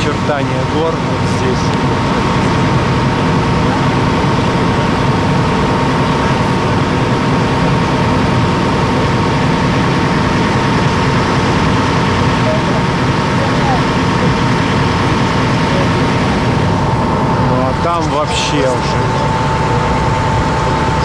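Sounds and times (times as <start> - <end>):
boat engines droning: 0.0 - 21.0
high hum: 0.0 - 21.0.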